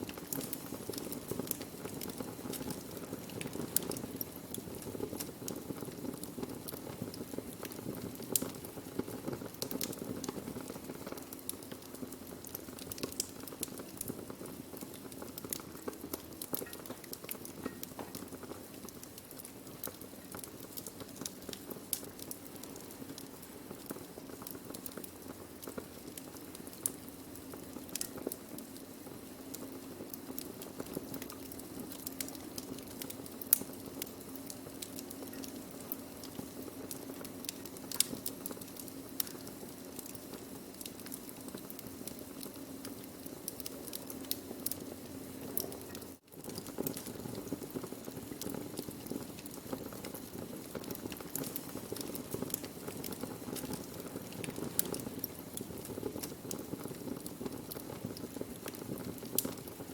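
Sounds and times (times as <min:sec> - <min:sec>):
fire crackling and popping: 0:00.0 - 0:59.9
low hiss of fire: 0:00.0 - 0:59.9.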